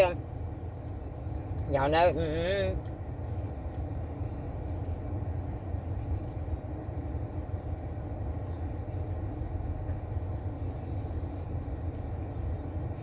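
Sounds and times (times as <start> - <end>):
air-conditioning blower: 0.0 - 13.0
car engine idling: 0.0 - 13.0.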